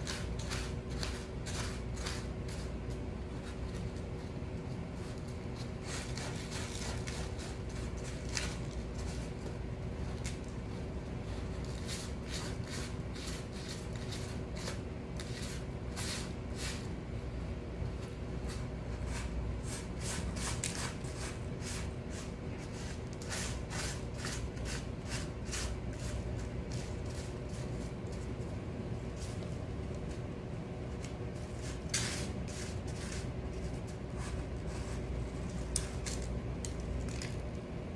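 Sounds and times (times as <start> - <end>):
kitten scratching litter: 0.0 - 17.1, 17.9 - 37.5
low background hum: 0.0 - 37.9.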